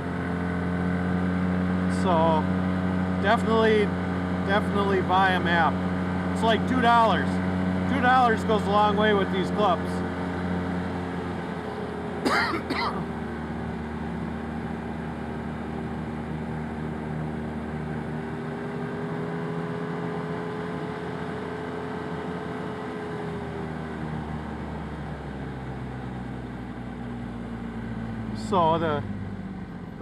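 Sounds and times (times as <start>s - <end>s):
utility vehicle engine running: 0.0s - 30.0s.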